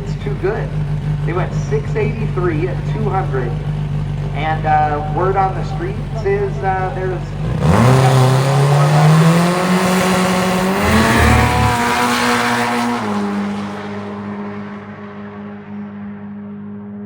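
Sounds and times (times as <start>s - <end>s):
drag racing car accelerating: 0.0s - 17.0s.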